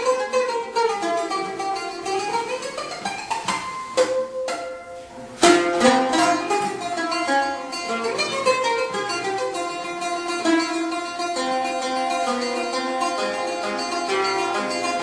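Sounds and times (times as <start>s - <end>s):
plucked oud: 0.0s - 15.0s.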